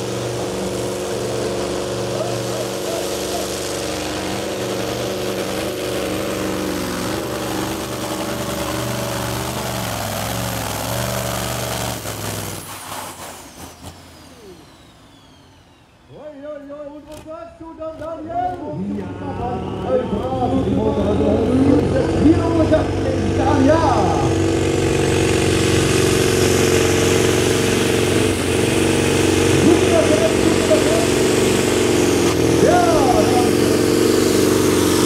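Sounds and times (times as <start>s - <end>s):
heavy diesel engine drone: 0.0s - 35.0s.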